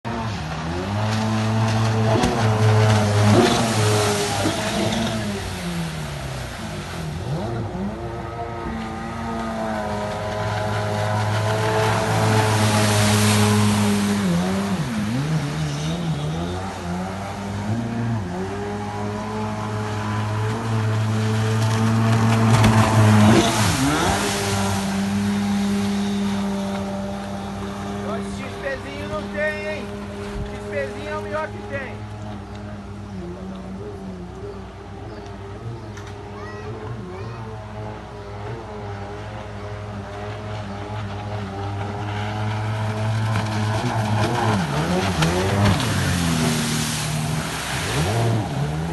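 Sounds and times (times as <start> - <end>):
jet ski engine running: 0.0 - 48.9.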